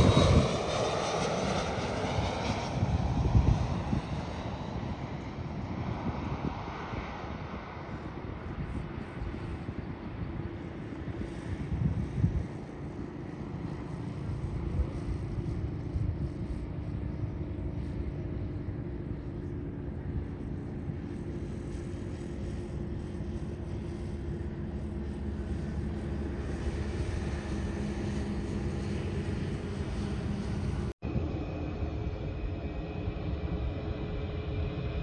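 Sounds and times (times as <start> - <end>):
jet airliner engines rumbling: 0.0 - 35.0.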